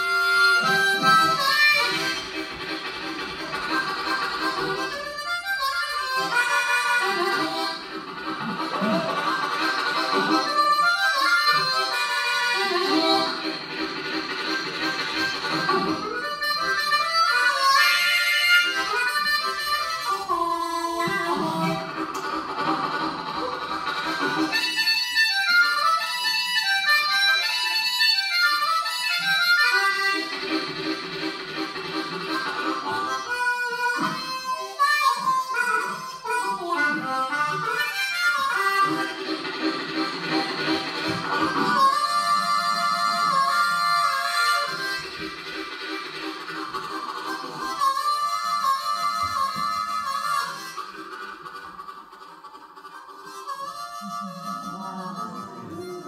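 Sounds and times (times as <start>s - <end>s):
harmonica playing chords: 0.0s - 56.0s.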